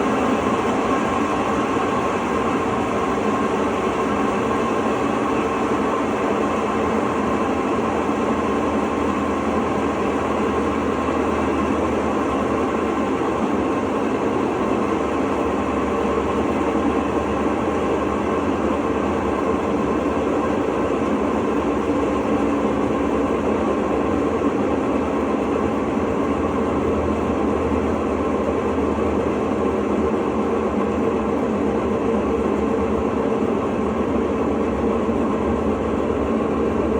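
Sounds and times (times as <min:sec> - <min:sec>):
washing machine spinning: 0:00.0 - 0:36.9.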